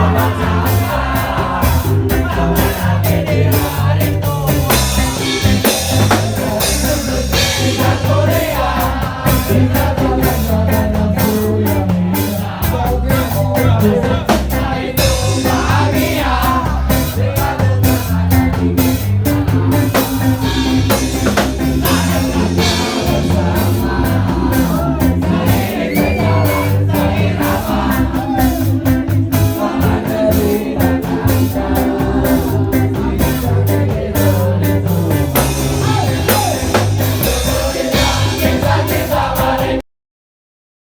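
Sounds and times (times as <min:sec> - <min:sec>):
low bass line: 0:00.0 - 0:39.5
drum kit: 0:00.0 - 0:39.8
guitar: 0:00.0 - 0:39.8
person singing: 0:00.0 - 0:39.8.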